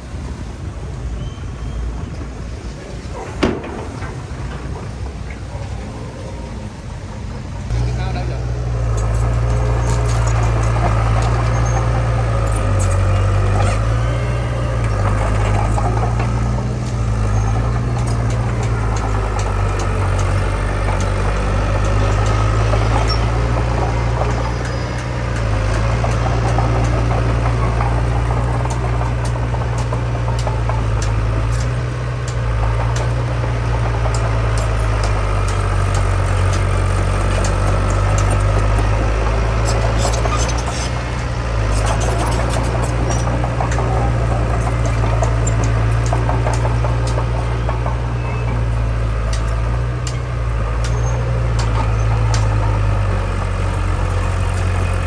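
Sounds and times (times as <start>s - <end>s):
heavy machinery diesel engine: 0.0s - 55.0s
sharp clicks and clanks: 2.9s - 5.9s, 7.0s - 55.0s.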